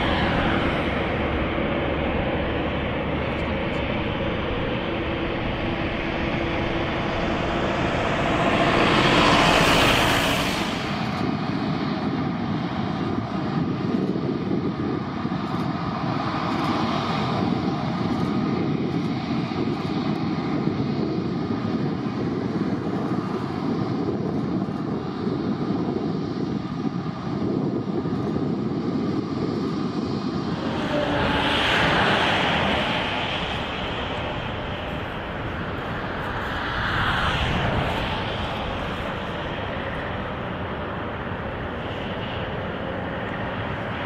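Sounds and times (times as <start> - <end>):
high engine whine: 0.0 - 44.0
jet engines passing: 0.0 - 44.0.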